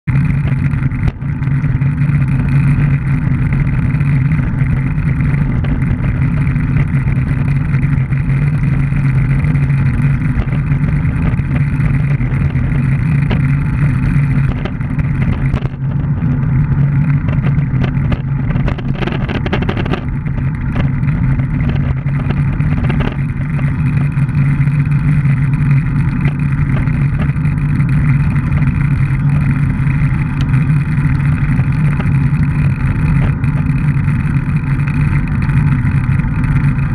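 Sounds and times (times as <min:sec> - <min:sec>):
tyres and chain humming: 0:00.1 - 0:36.9
wind on microphone: 0:00.2 - 0:36.9.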